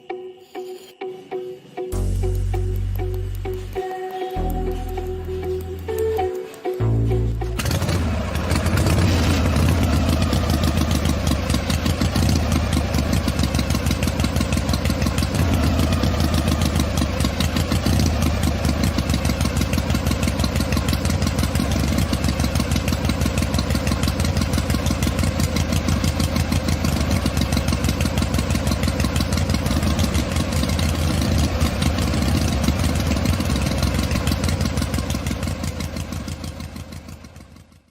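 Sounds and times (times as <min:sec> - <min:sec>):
engine idling with chugging: 0:02.0 - 0:37.9.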